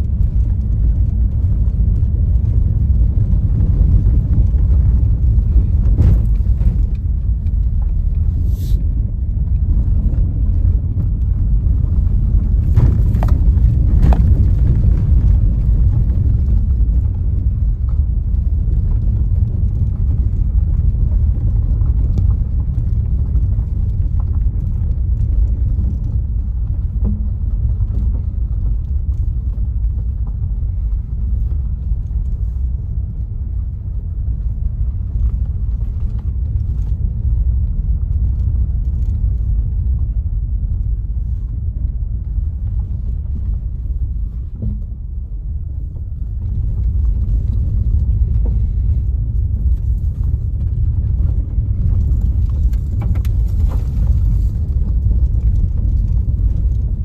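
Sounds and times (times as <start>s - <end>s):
low rumble of moving vehicle: 0.0s - 57.0s.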